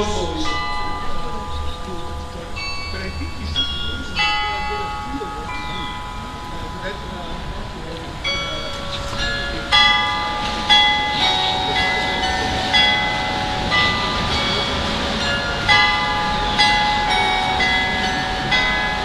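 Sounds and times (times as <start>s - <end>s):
carillon bells playing slow tune: 0.0s - 19.0s.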